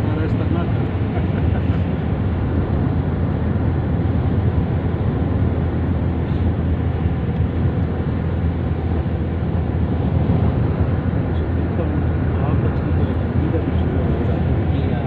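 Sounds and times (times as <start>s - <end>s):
road and wind noise from vehicle: 0.0s - 15.0s.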